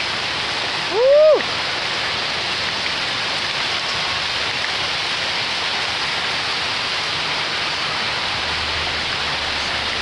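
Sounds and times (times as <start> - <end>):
heavy rain and hail pattering: 0.0 - 10.0.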